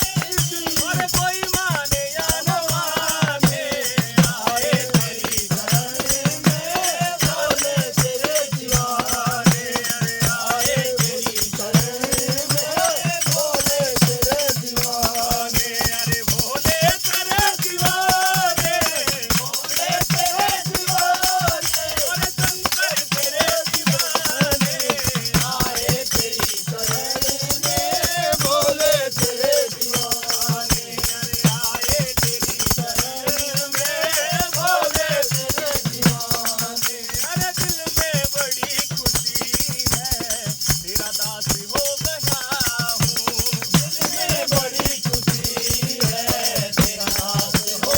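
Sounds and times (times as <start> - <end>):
jingling hand percussion: 0.0 - 47.9
men singing in unison: 0.0 - 47.9.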